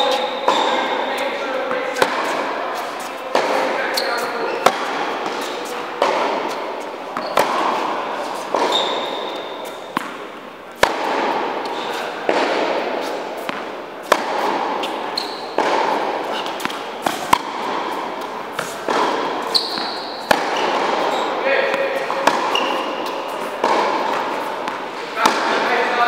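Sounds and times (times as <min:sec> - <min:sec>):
rackets striking tennis ball: 0:00.0 - 0:26.0
tennis ball bouncing on court: 0:00.0 - 0:26.0.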